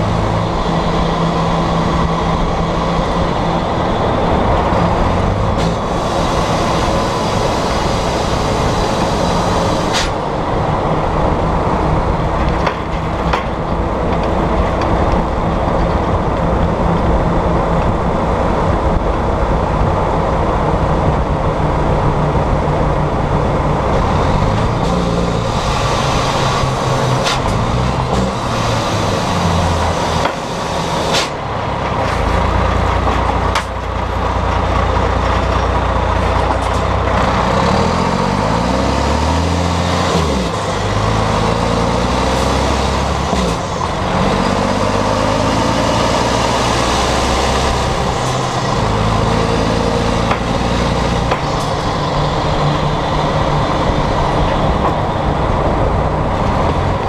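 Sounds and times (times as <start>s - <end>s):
diesel truck engine through open exhaust: 0.0s - 57.0s
road noise: 0.0s - 57.0s.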